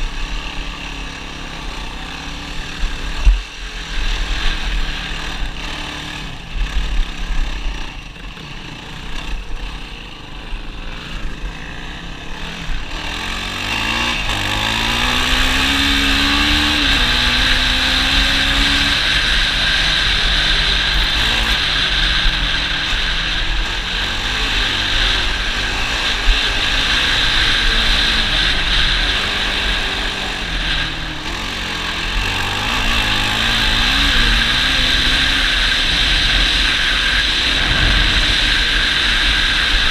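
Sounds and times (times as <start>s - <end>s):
atv engine running: 0.0s - 39.9s
steady rushing noise: 0.0s - 39.9s.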